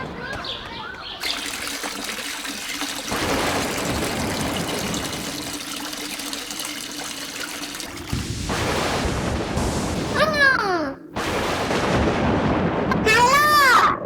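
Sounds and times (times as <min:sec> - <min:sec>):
water gushing: 0:00.0 - 0:11.9.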